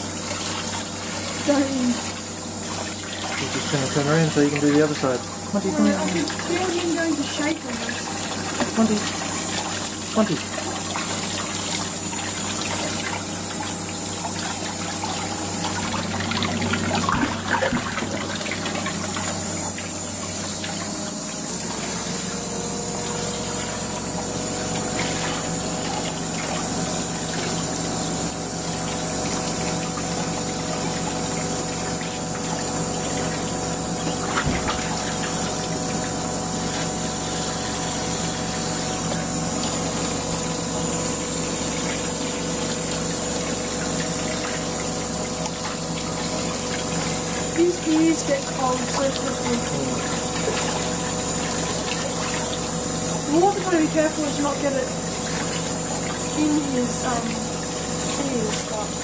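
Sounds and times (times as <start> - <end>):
shower water splashing into tub: 0.0 - 59.0
steady hum: 0.0 - 59.0.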